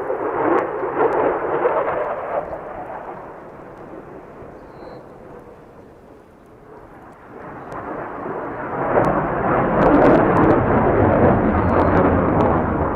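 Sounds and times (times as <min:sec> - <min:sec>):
aircraft engine rumble: 0:00.0 - 0:12.9.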